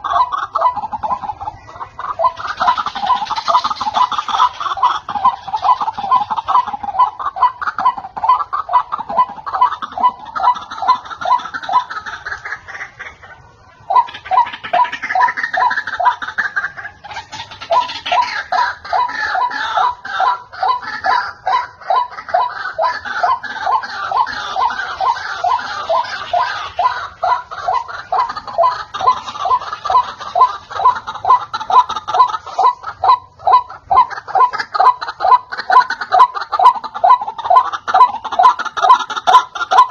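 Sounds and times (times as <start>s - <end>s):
bird call rapid repeated notes: 0.0s - 13.2s, 13.9s - 39.9s.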